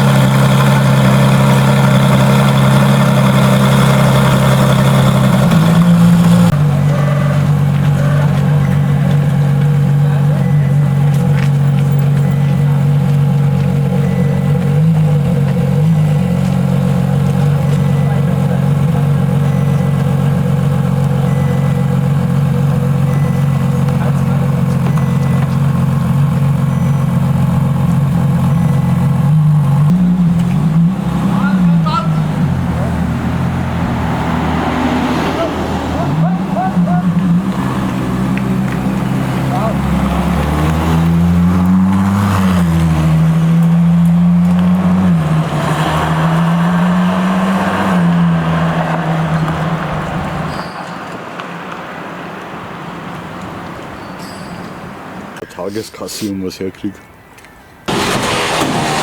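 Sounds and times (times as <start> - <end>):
car engine idling: 0.0 - 54.0, 57.9 - 59.0
road noise: 0.0 - 59.0.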